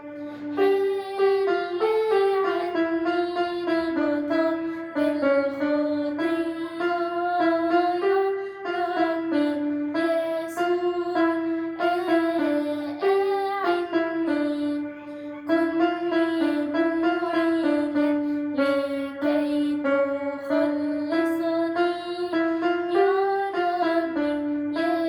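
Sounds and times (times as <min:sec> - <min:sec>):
girl singing slow melody: 0:00.0 - 0:25.0
keyboard accompaniment: 0:00.0 - 0:25.0.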